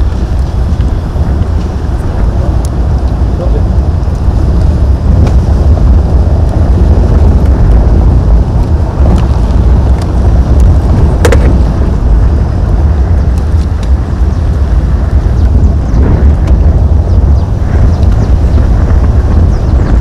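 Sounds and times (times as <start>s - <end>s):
vehicles rumbling on dirt road: 0.0s - 20.0s
wind buffeting microphone: 0.0s - 20.0s.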